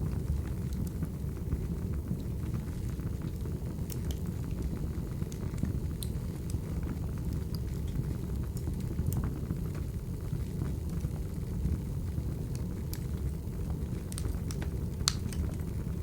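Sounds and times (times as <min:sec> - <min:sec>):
fire popping and snapping: 0:00.0 - 0:16.0
low rumble of burning logs: 0:00.0 - 0:16.0.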